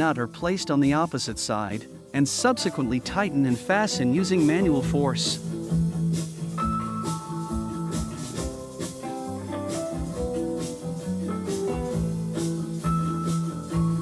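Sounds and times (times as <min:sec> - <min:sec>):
guitar instrumental with steady beat: 0:00.0 - 0:14.0.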